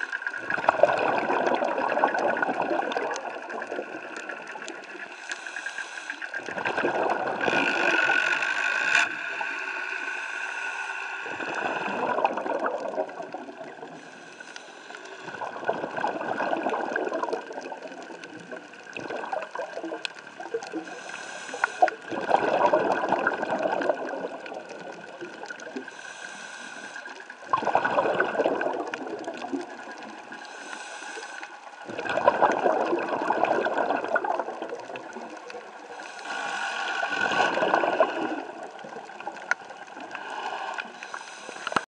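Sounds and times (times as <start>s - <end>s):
diver breathing bubbles: 0.0s - 41.9s.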